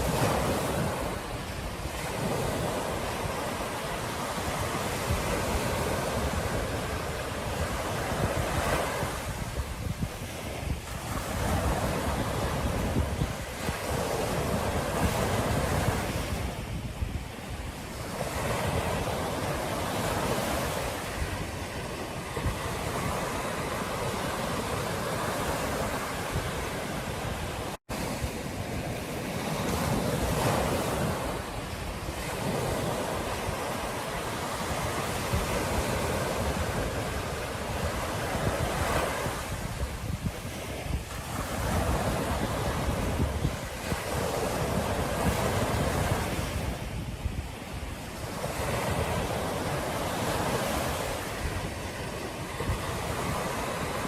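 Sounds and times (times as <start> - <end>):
ocean surf washing onto beach: 0.0 - 54.0
wind buffeting microphone: 0.0 - 54.0.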